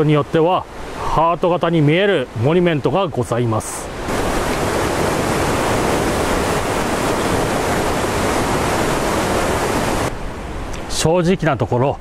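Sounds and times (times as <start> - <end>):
river water rushing: 0.0 - 2.7, 3.6 - 10.9.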